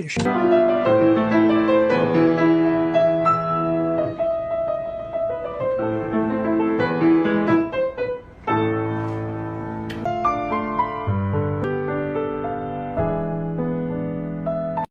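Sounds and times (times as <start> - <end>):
slow piano chords: 0.0 - 14.9.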